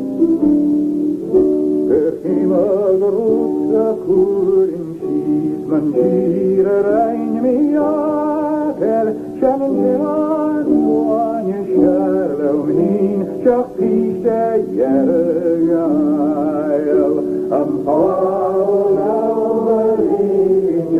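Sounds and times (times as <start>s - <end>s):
person singing wavering notes: 1.9s - 20.9s.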